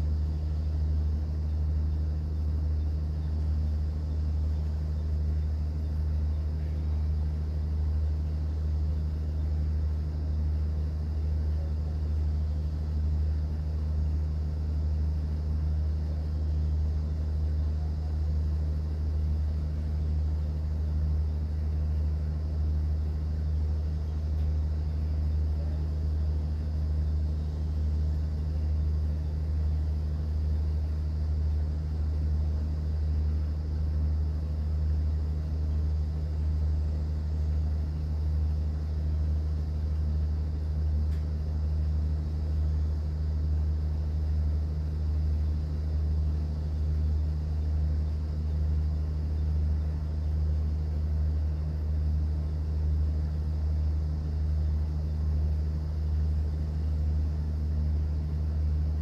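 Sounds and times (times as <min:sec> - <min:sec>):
boat engine low hum: 0:00.0 - 0:59.0.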